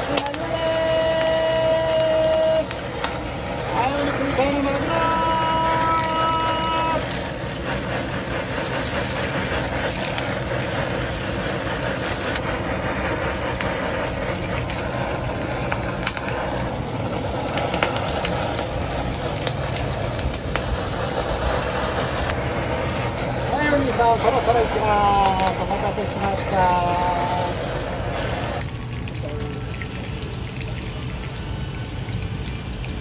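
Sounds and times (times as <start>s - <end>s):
blowtorch flame hissing: 0.0s - 33.0s
fish sizzling in hot oil: 0.0s - 33.0s.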